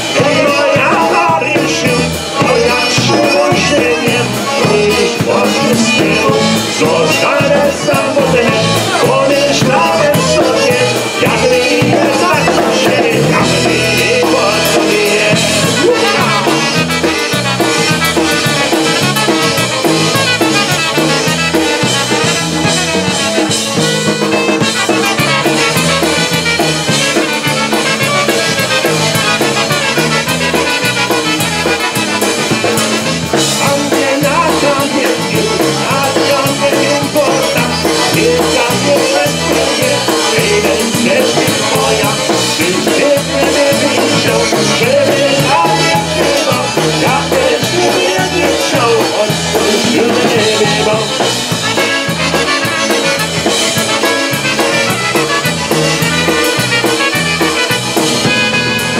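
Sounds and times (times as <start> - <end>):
polka band with brass and drums: 0.0 - 58.9.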